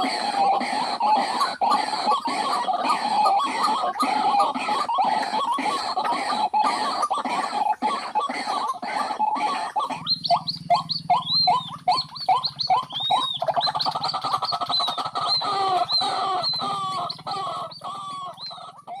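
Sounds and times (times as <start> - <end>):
waterhens calling: 0.0 - 19.0.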